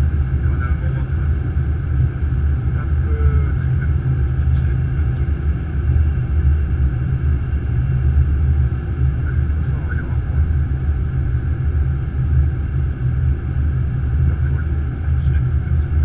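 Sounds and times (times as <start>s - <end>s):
aircraft cockpit rumble: 0.0s - 16.0s.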